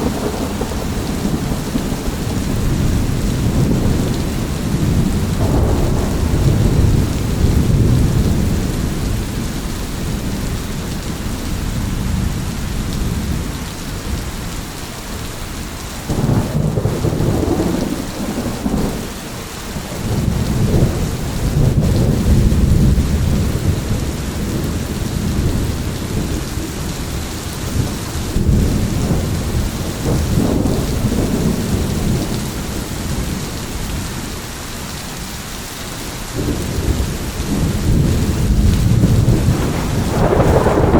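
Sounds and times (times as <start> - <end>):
rolling thunder: 0.0 - 14.6, 16.0 - 34.4, 36.3 - 40.9
heavy rain: 0.0 - 40.9.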